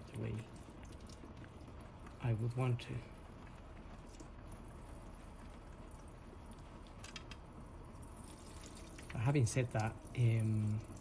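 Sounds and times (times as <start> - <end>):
fluid dripping ticks: 0.0 - 11.0
low steady hiss: 0.0 - 11.0.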